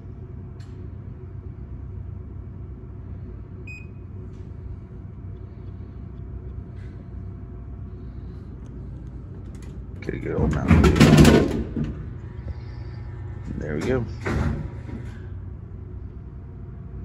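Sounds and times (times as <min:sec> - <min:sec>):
vending machine hum: 0:00.0 - 0:17.0.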